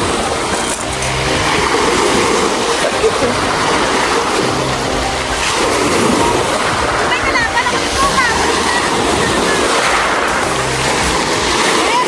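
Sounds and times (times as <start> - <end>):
waves washing up pebble beach: 0.0 - 12.0.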